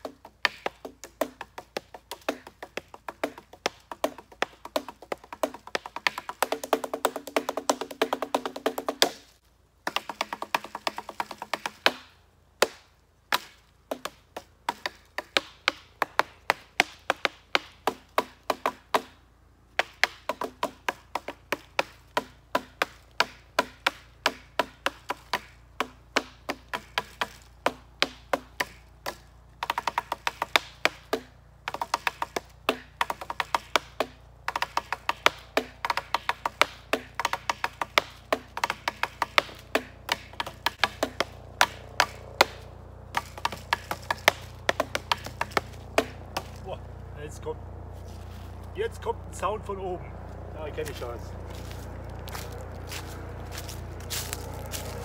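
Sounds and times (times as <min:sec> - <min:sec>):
sticks drumming on logs: 0:00.0 - 0:46.8.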